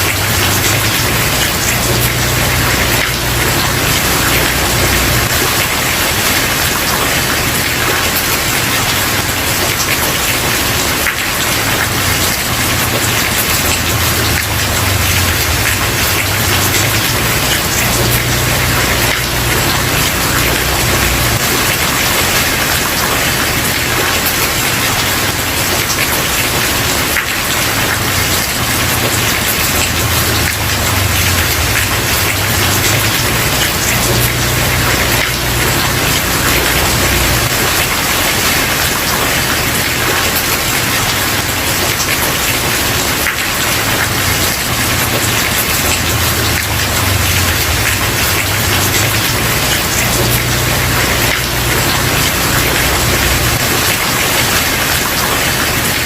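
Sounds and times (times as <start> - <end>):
rain on wooden porch: 0.0 - 56.0.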